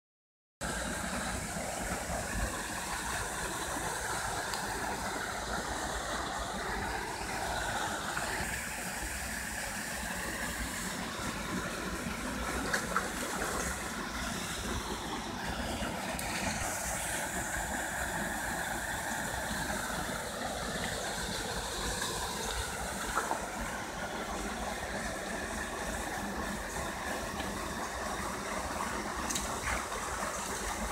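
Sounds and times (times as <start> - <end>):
waterfall pouring into pool: 0.6 - 30.9.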